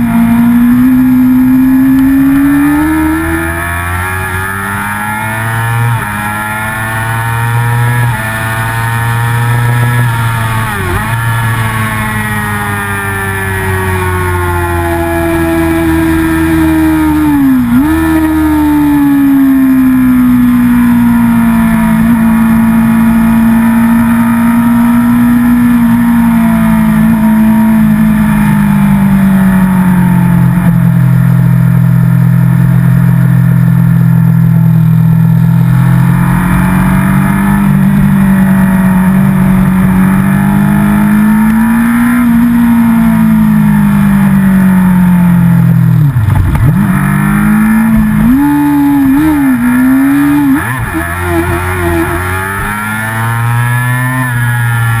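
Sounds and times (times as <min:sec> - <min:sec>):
racing motorcycle engine revving: 0:00.0 - 0:55.0.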